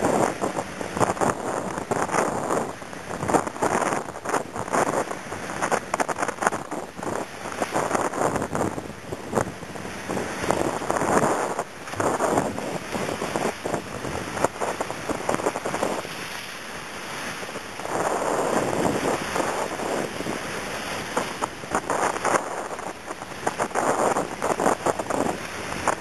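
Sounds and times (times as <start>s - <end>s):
water hissing along a hull: 0.0s - 26.0s
wind buffeting the microphone: 0.0s - 26.0s.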